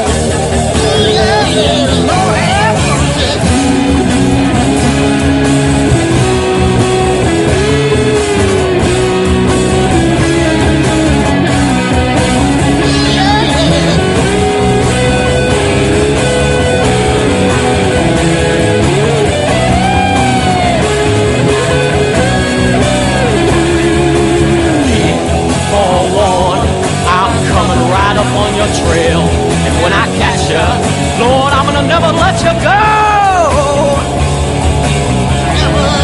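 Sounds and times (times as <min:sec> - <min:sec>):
rock music with guitar: 0:00.0 - 0:36.0.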